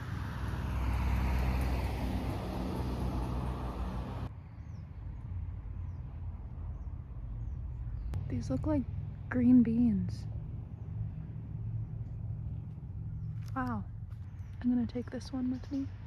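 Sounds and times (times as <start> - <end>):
car passing on road: 0.0 - 14.6.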